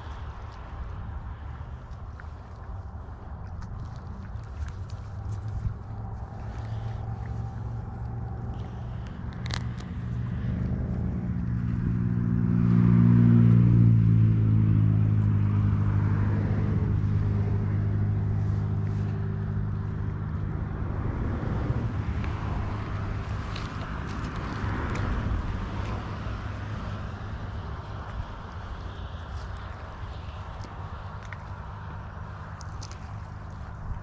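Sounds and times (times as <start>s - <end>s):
engine passing by: 0.0s - 34.0s.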